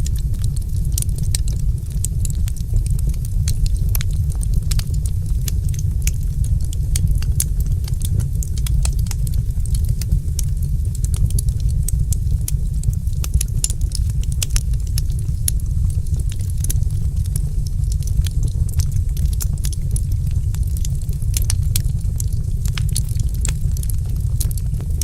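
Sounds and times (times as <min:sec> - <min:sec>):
low rumble: 0:00.0 - 0:25.0
wood fire crackling: 0:00.0 - 0:25.0.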